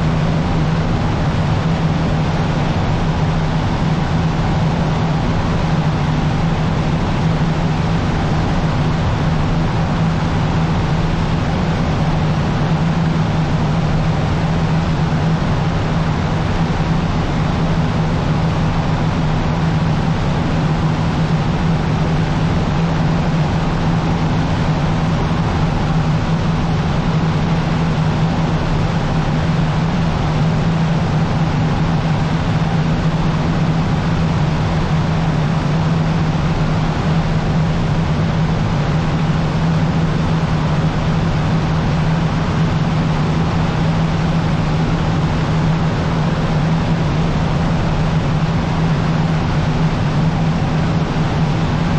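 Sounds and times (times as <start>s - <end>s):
light aircraft engine droning: 0.0s - 51.9s.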